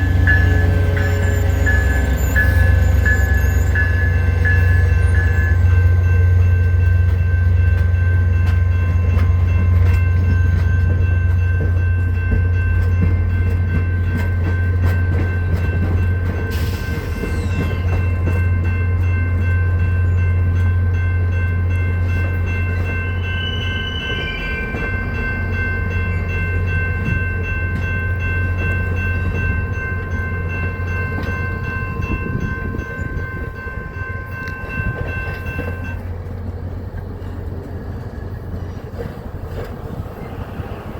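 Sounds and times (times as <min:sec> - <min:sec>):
high-pitched ringing tones: 0:00.0 - 0:36.0
diesel locomotive rumble: 0:00.0 - 0:40.9
train wheels clicking on rail joints: 0:00.0 - 0:40.9.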